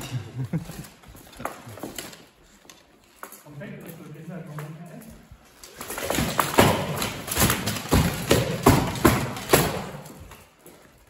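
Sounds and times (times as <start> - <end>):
practice swords knocking: 0.0 - 10.6
feet on wooden floor: 0.0 - 11.0
plate armour rattling: 0.0 - 11.0.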